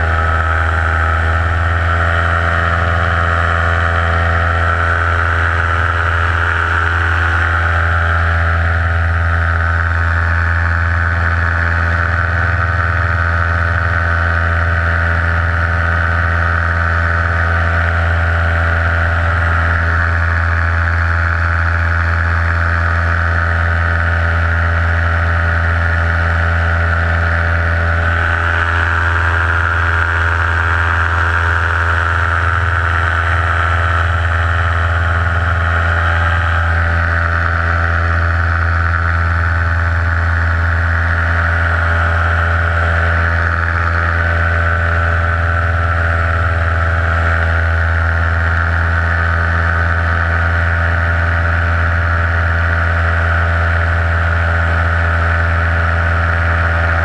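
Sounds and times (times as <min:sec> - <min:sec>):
paramotor engine drone: 0:00.0 - 0:57.0.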